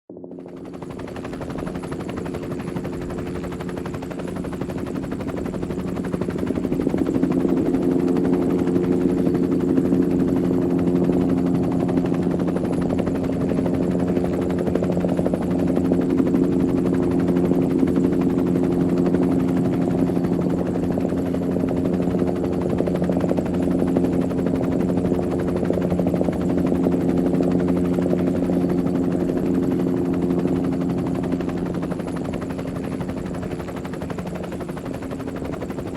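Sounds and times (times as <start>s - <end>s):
helicopter engine drone: 0.1s - 35.9s
helicopter rotor chop: 0.2s - 35.9s.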